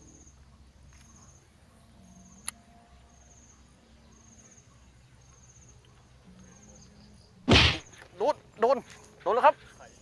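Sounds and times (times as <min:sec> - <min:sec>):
insect chirping: 0:00.0 - 0:09.2.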